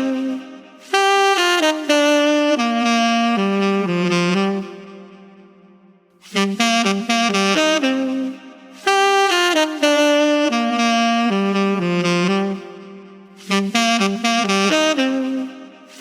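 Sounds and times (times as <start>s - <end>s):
solo saxophone playing: 0.0s - 16.0s.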